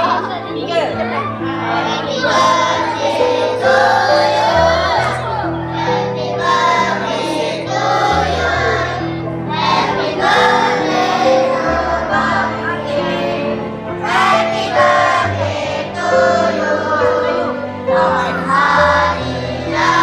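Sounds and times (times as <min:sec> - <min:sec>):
children singing: 0:00.0 - 0:20.0
instrumental backing: 0:00.0 - 0:20.0.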